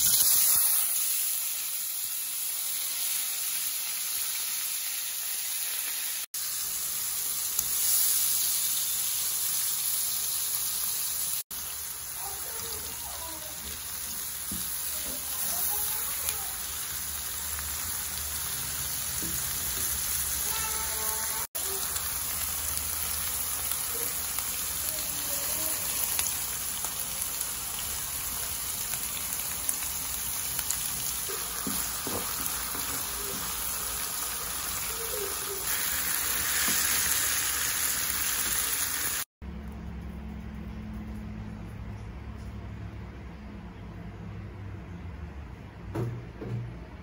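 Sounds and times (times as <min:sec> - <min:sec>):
vegetables sizzling in oil: 0:00.0 - 0:39.3.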